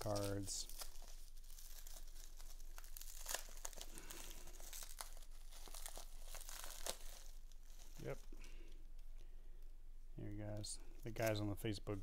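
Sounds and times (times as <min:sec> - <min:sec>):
bubble wrap crinkling: 0:00.0 - 0:09.7, 0:10.3 - 0:12.0.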